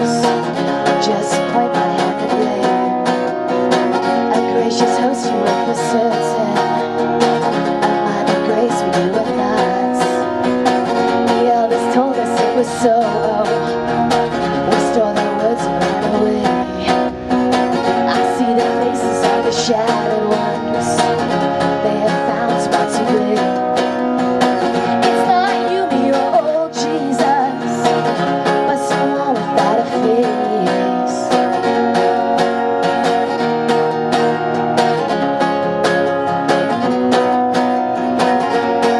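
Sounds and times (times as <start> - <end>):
person singing: 0.0 - 31.7
plucked acoustic strings: 0.0 - 38.9.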